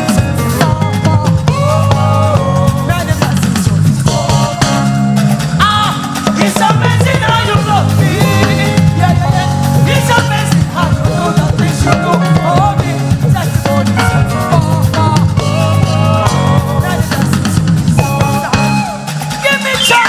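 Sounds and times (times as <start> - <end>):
bass: 0.0 - 20.0
drums: 0.0 - 20.0
live gospel band music: 0.0 - 20.0.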